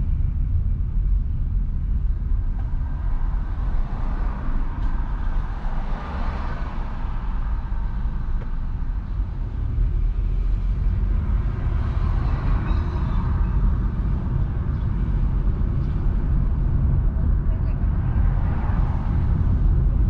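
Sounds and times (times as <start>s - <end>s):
road and tyre rumble: 0.0s - 20.0s.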